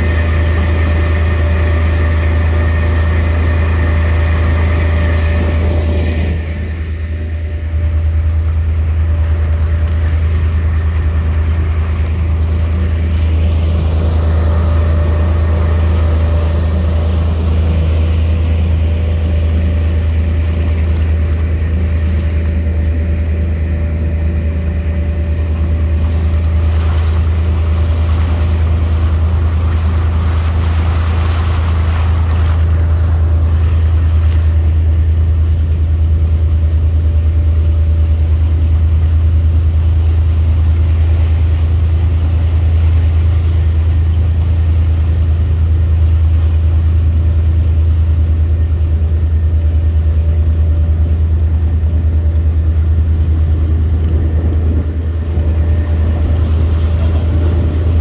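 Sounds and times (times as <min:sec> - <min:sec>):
boat engine droning: 0:00.0 - 0:58.0
water rushing: 0:00.0 - 0:58.0
wind: 0:00.0 - 0:58.0.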